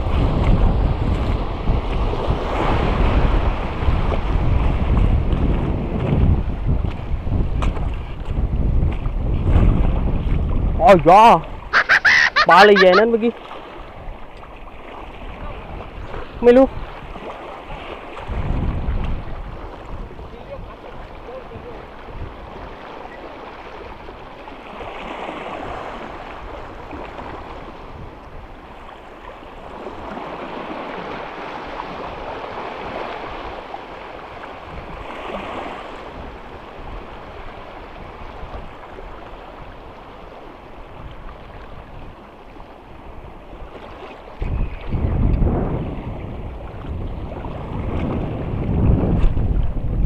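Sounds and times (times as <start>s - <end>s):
waves lapping on rocks: 0.0s - 44.5s
wind buffeting microphone: 0.0s - 50.0s
wind noise on microphone: 0.0s - 50.0s.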